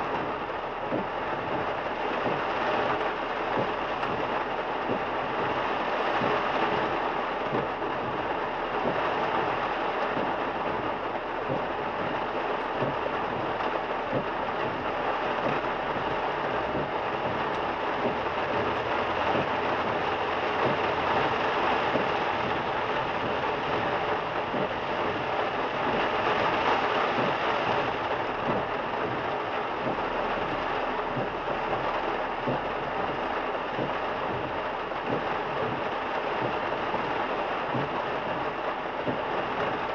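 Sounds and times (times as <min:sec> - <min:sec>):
heavy rain on a car: 0:00.0 - 0:39.9
tyres hissing on wet road: 0:00.0 - 0:39.9.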